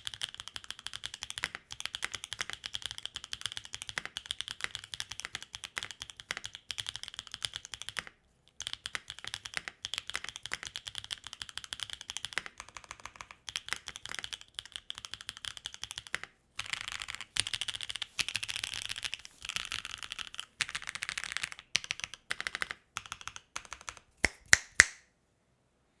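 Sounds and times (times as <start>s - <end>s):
typing on mechanical keyboard: 0.0s - 24.1s.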